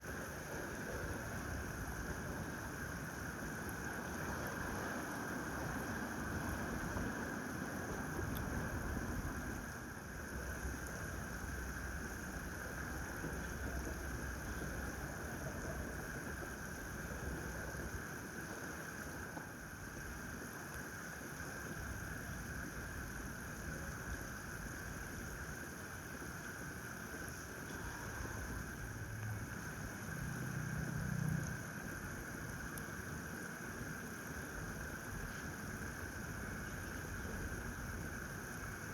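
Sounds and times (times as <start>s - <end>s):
constant hiss: 0.0s - 38.9s.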